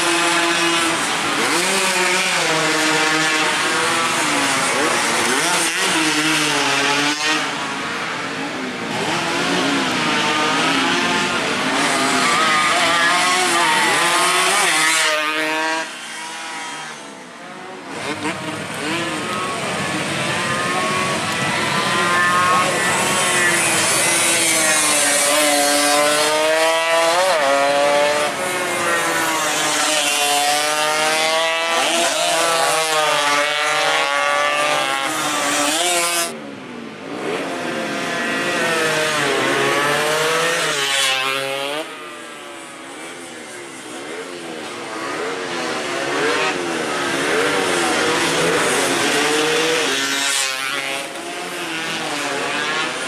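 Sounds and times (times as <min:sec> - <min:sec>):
racing motorcycles revving past: 0:00.0 - 0:36.4, 0:37.0 - 0:53.0.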